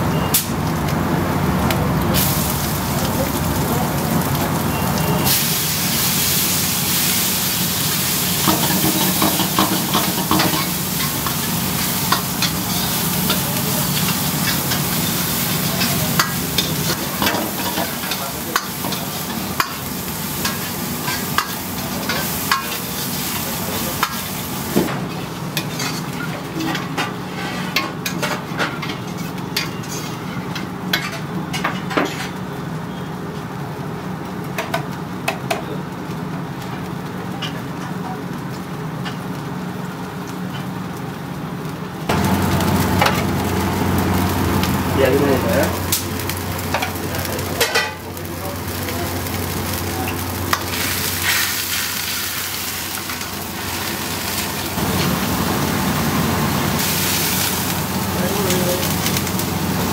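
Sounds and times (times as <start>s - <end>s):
sauce sizzling: 0.0s - 31.5s, 32.4s - 59.9s
gas flame hum: 0.0s - 59.9s.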